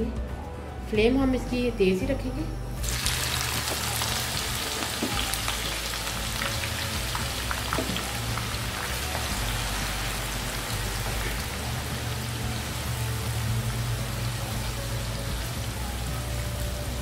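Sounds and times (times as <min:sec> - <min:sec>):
onions sizzling in hot oil: 0:02.8 - 0:17.0.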